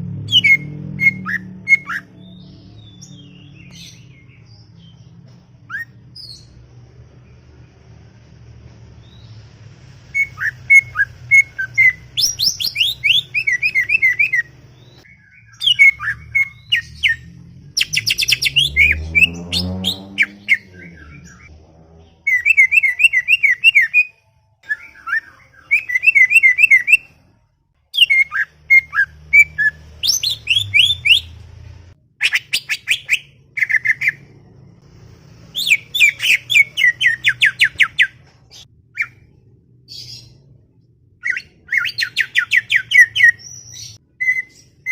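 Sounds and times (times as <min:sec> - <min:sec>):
bird chirping and trilling: 0:00.2 - 0:06.6, 0:10.1 - 0:27.2, 0:27.9 - 0:34.4, 0:35.5 - 0:40.6, 0:41.2 - 0:44.9.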